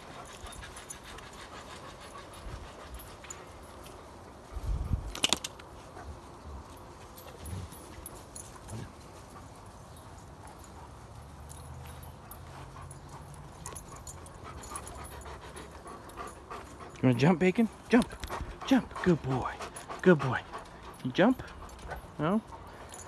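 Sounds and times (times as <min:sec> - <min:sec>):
dogs moving on grass: 0:00.0 - 0:23.0.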